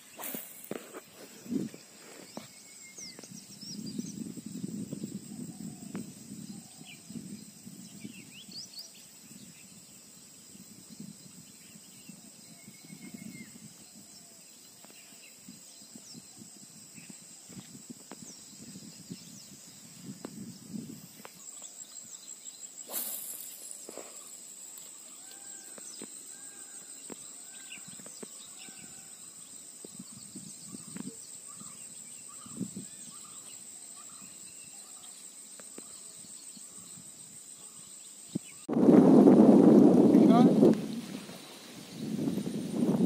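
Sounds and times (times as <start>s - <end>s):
high-pitched insect drone: 0.0s - 38.6s.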